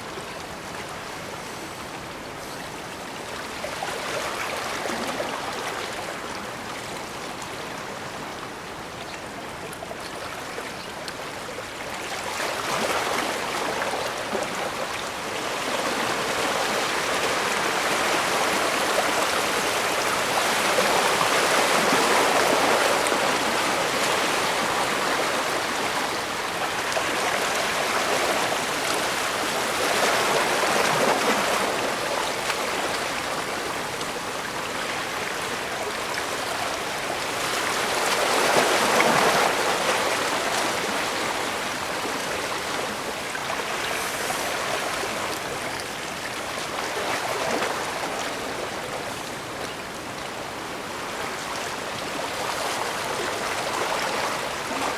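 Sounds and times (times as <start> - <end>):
waves washing onto shore: 9.5 - 54.9.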